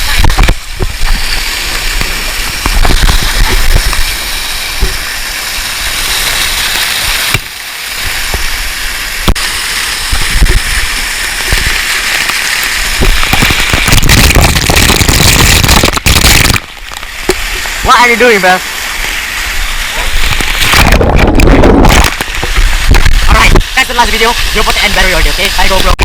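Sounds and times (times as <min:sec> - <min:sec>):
waterfall rushing and splashing: 0:00.0 - 0:26.0.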